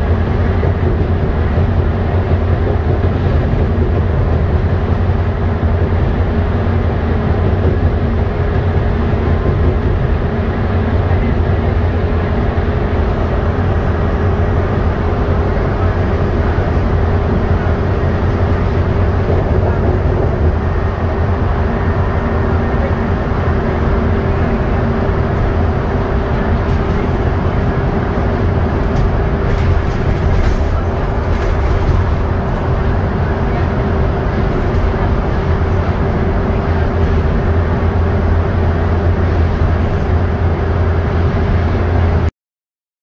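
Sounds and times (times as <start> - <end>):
bus engine drone: 0.0 - 42.3
constant hum: 0.0 - 42.3
tyre and road noise: 0.0 - 42.3.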